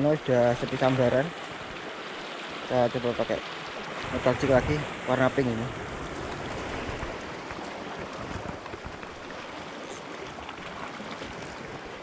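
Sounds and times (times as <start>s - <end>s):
waves lapping over rocks: 0.0s - 12.0s.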